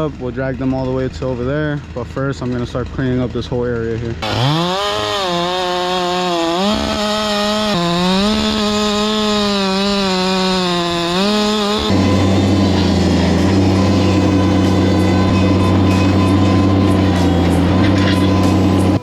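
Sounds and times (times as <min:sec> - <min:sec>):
low steady engine drone: 0:00.0 - 0:04.3, 0:07.2 - 0:19.0
chainsaw cutting logs: 0:01.8 - 0:19.0.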